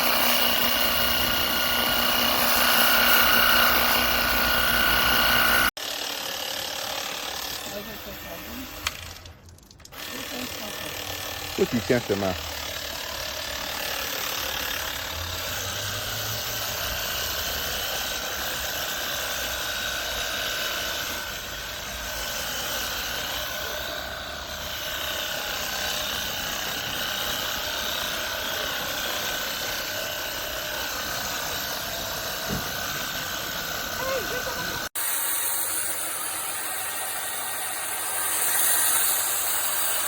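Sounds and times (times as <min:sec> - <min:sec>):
electric pump motor whining: 0:00.0 - 0:17.6, 0:19.4 - 0:35.2.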